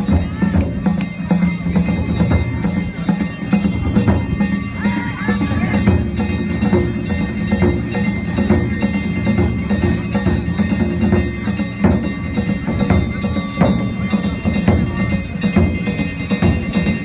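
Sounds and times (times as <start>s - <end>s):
drum beats: 0.0s - 17.0s
metal hand gongs clanging: 0.0s - 17.0s.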